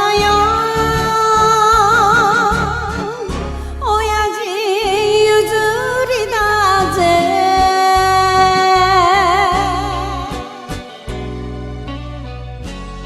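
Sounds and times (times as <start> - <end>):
woman singing with vibrato: 0.0 - 11.1
karaoke backing track: 0.0 - 13.0.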